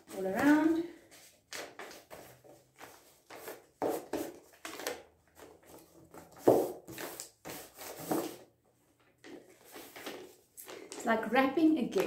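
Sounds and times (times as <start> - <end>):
paper rustling and crinkling: 0.0 - 8.5, 9.2 - 11.0.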